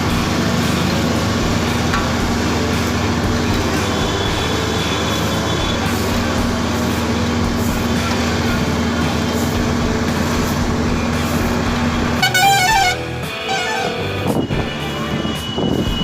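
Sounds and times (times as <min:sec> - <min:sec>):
large machine engine droning: 0:00.0 - 0:16.0.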